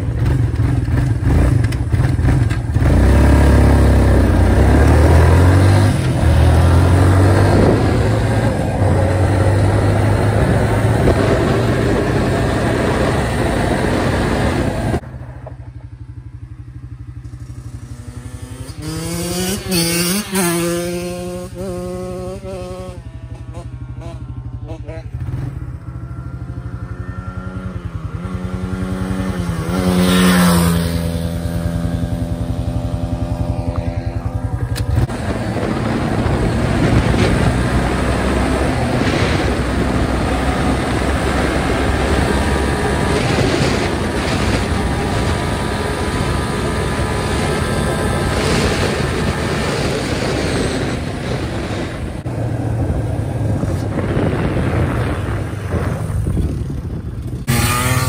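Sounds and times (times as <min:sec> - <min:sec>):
dirt bike engine revving: 0:00.0 - 0:15.0, 0:17.0 - 0:58.0
wind noise on microphone: 0:00.0 - 0:15.8, 0:18.0 - 0:58.0.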